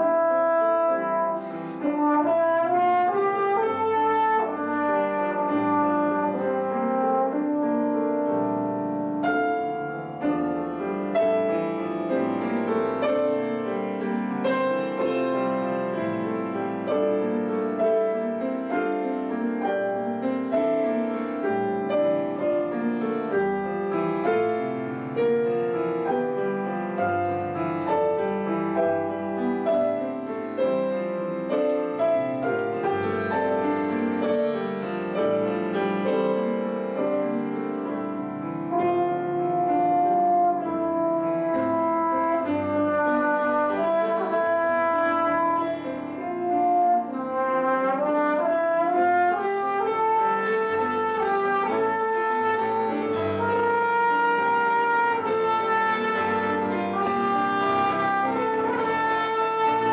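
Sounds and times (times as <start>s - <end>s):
grand piano playing: 0.0s - 59.9s.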